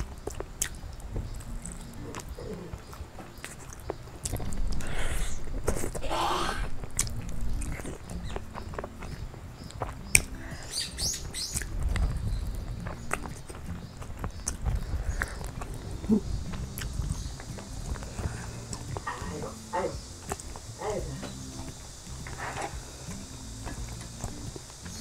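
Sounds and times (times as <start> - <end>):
bird chirping: 0.0 - 25.0
person chewing and lip-smacking: 0.0 - 25.0.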